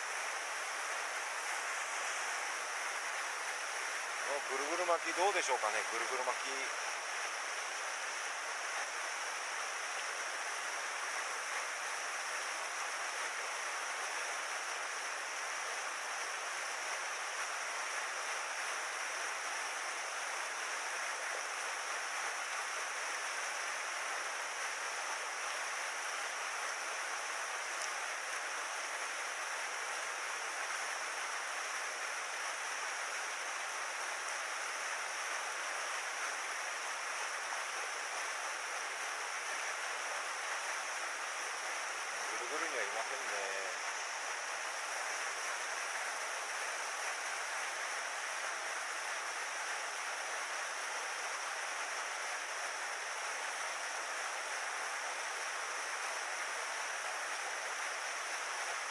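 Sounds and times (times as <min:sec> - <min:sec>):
stream water rushing: 0:00.0 - 0:58.9.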